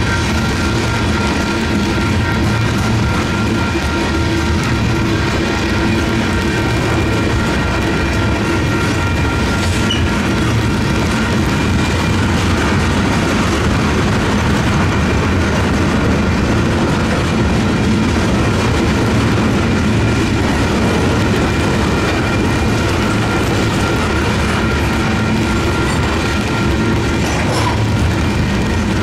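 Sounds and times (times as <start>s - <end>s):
freight cars rumbling: 0.0s - 29.0s
wheel clatter on rails: 0.0s - 29.0s.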